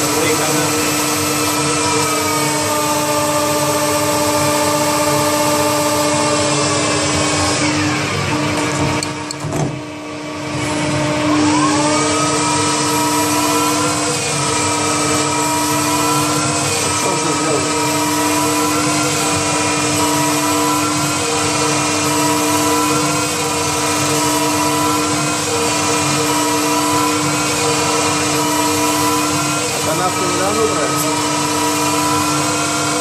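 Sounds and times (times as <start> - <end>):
lathe spindle whine: 0.0 - 33.0.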